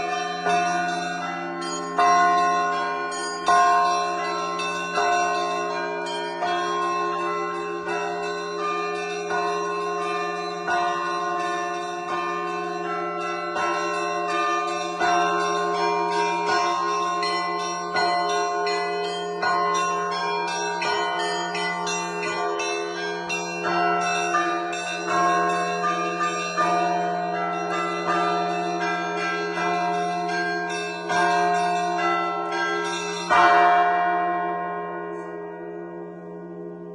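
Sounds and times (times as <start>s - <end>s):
large bell humming: 0.0s - 36.5s
small church bells ringing quickly: 0.0s - 36.9s.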